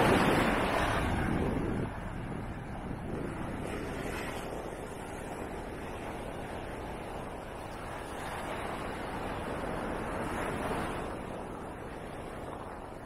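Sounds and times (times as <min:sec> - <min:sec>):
wave breaking on beach: 0:00.0 - 0:11.3.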